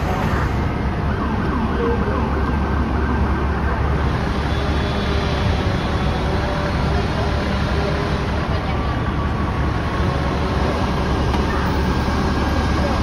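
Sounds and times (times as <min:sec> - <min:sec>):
fire engine siren wailing: 0:00.0 - 0:13.0
street noise: 0:00.0 - 0:13.0.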